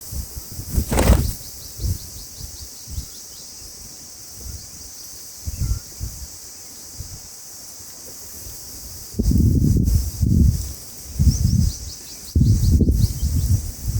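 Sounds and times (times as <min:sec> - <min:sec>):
insect hiss: 0:00.0 - 0:13.9.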